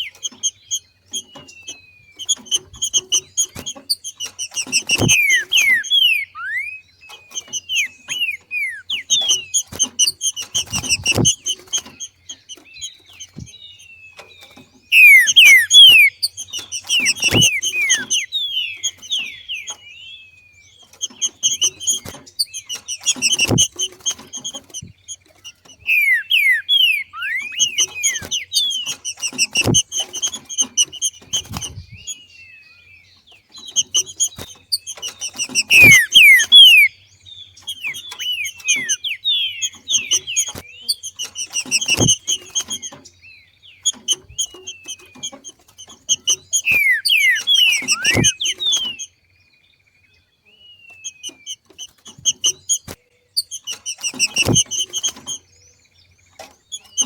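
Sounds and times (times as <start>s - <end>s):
bird chattering and whistling: 0.0s - 49.2s, 50.4s - 57.0s.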